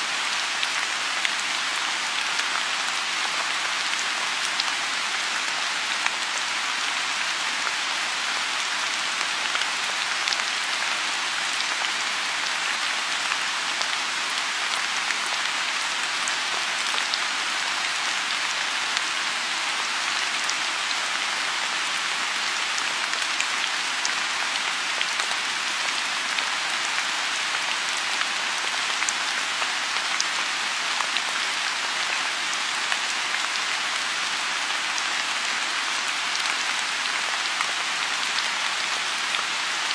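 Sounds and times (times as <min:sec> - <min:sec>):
rain on a pond: 0:00.0 - 0:39.9.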